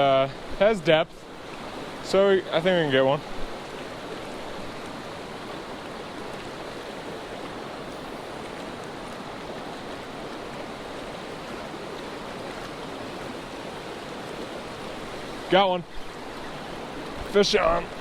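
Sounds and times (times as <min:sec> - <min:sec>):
mountain creek flowing water: 0:00.0 - 0:18.0.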